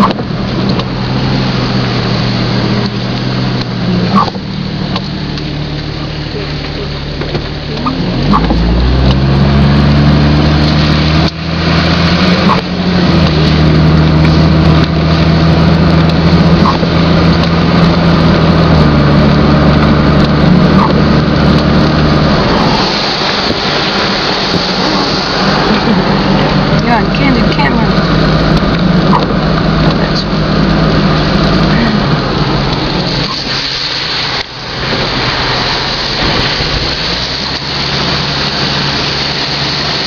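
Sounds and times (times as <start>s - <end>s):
car engine running: 0.0s - 40.0s
tyres hissing on wet road: 0.0s - 40.0s.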